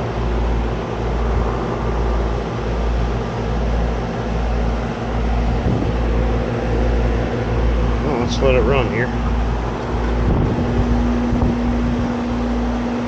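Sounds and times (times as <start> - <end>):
compressor hum: 0.0 - 13.0
condenser fan rushing air: 0.0 - 13.0
low pulsing throb: 0.0 - 13.0.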